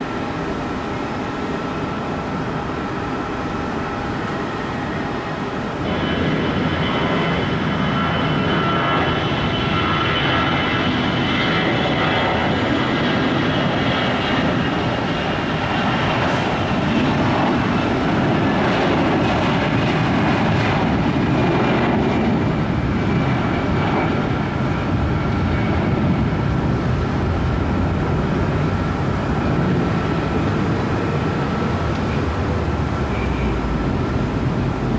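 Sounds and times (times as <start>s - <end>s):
jet engines roaring: 0.0s - 34.9s.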